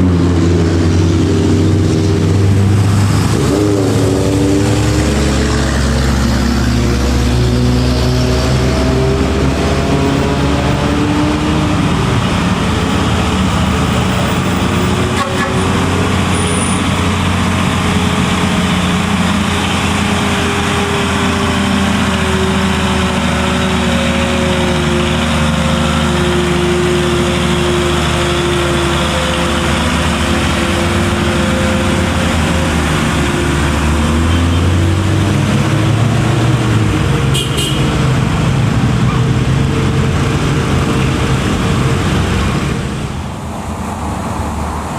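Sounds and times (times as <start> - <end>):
road noise: 0.0 - 44.9
truck diesel engine under load: 0.0 - 44.9.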